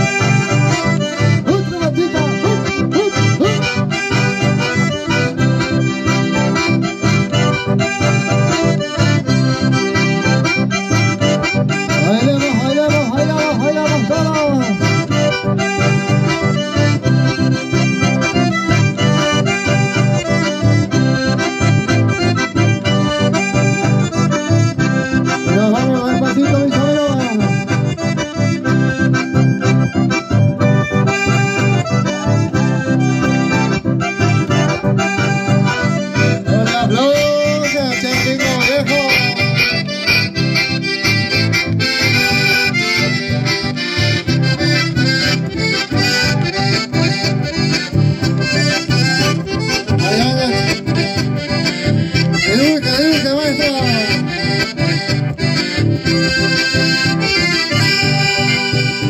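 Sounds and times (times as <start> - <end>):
acoustic guitar: 0.0 - 59.0
button accordions playing: 0.0 - 59.0.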